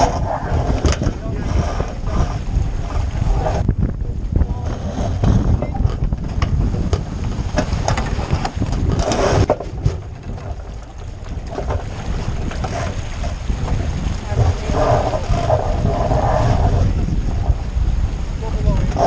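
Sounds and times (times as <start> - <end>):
water rushing past hull: 0.0 - 19.0
wind buffeting microphone: 0.0 - 19.0.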